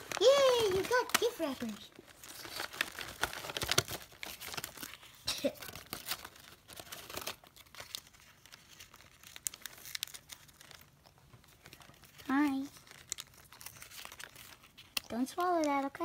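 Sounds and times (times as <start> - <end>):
wrapping paper crinkling and tearing: 0.0 - 16.0.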